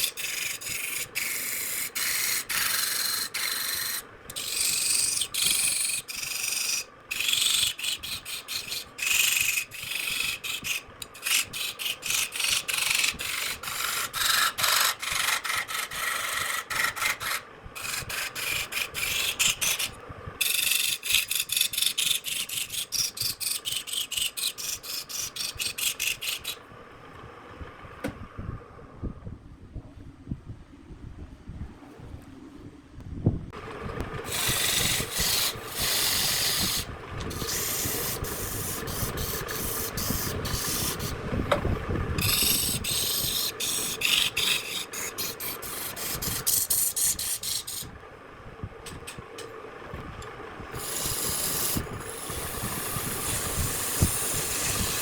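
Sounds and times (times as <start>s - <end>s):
abrasive tool rubbing wood: 0.0s - 26.6s, 34.3s - 47.9s, 50.8s - 55.0s.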